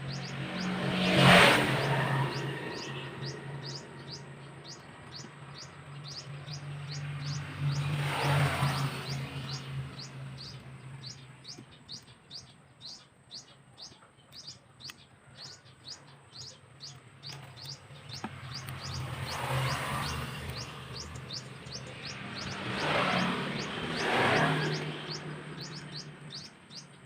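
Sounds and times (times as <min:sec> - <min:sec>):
small bird chirping: 0:00.0 - 0:27.0.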